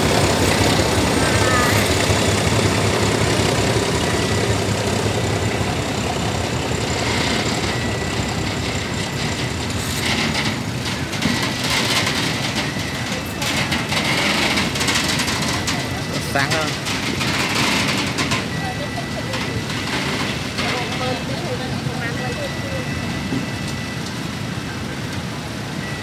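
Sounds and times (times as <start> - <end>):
motorbike engines idling: 0.0 - 23.6
freight train rolling past: 0.0 - 26.0.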